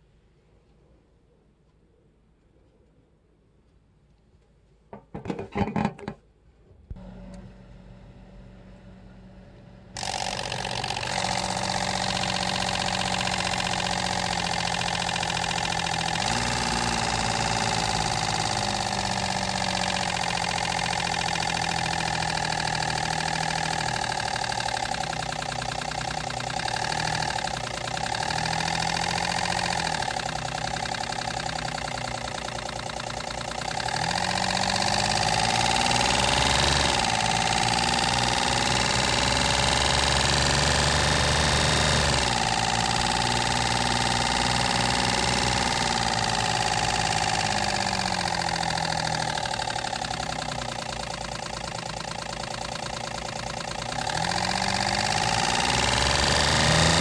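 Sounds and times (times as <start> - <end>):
paper strip buzzing on spinning fan: 7.0 - 57.0.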